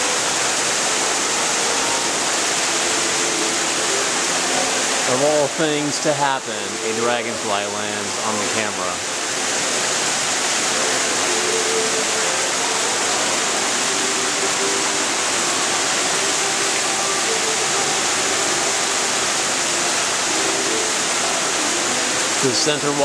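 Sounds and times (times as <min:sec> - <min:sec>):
small waterfall splashing over stones: 0:00.0 - 0:23.0.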